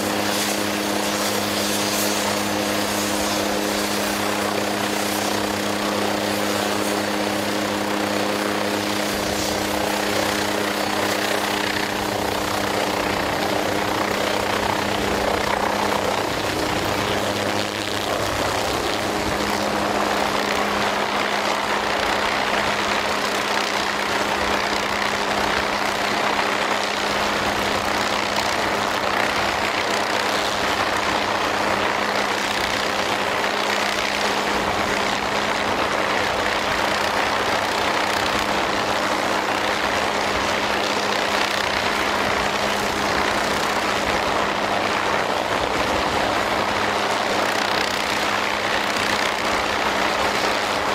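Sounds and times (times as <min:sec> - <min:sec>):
helicopter engine and rotors: 0:00.0 - 0:50.9.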